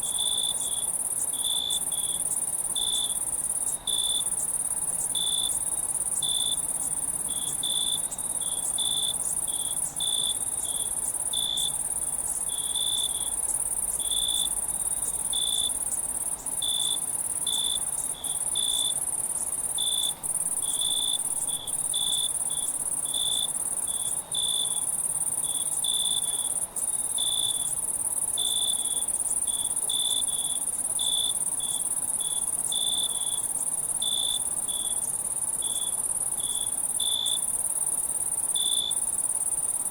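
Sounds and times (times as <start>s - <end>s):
crickets trilling: 0.0s - 39.9s
lower cricket chirps: 0.0s - 39.9s.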